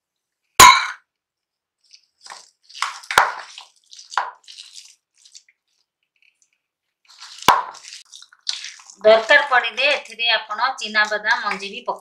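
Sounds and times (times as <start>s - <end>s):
wet squishing of mashed food: 1.2s - 12.0s.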